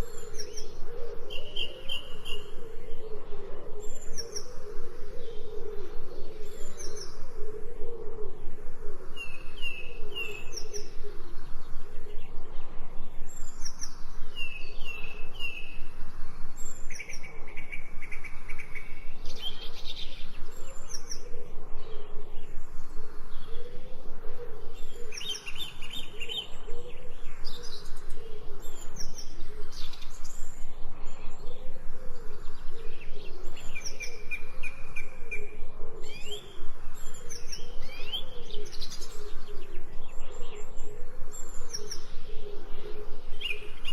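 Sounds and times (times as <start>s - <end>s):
birds chirping and singing: 0.0s - 43.9s
low bird calls: 0.0s - 43.9s.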